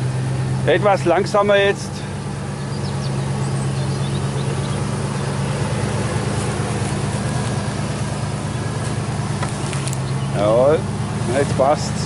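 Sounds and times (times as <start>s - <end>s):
pickup engine running at low revs: 0.0s - 12.0s.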